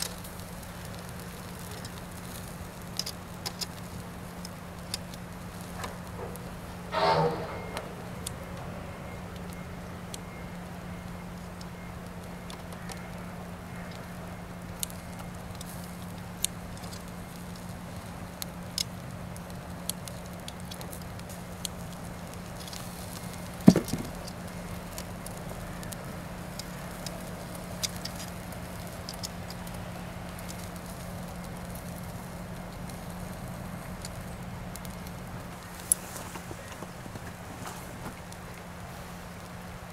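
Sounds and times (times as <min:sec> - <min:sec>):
meat sizzling on grill: 0:00.0 - 0:06.9, 0:09.3 - 0:36.1
fire pops and crackles: 0:00.0 - 0:39.9.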